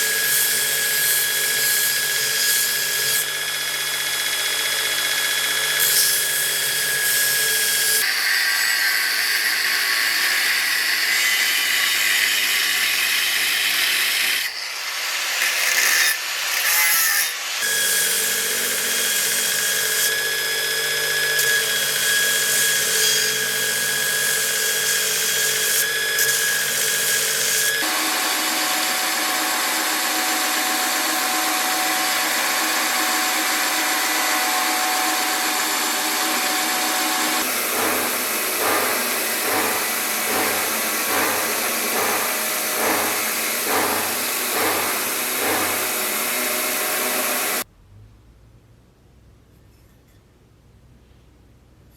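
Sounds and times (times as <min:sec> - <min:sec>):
power tool grinding: 0:00.0 - 0:47.7.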